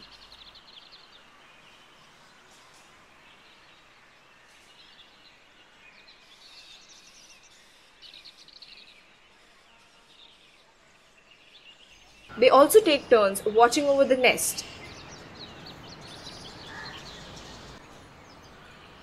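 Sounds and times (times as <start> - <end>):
steady low hiss: 0.0 - 10.1, 11.9 - 19.0
faint bird chirps: 0.0 - 19.0.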